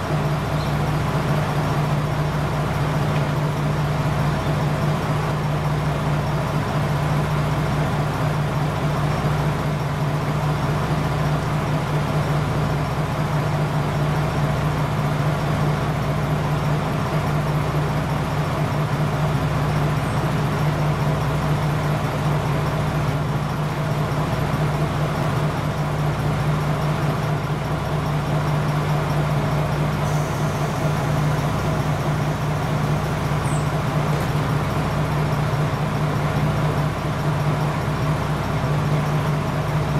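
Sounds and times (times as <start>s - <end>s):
diesel railcar engine idling: 0.0s - 39.9s.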